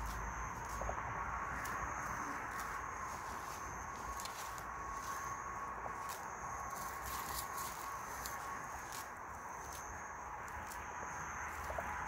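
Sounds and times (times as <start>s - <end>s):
pine needles rustling: 0.0s - 12.0s
steady background hiss: 0.0s - 12.0s.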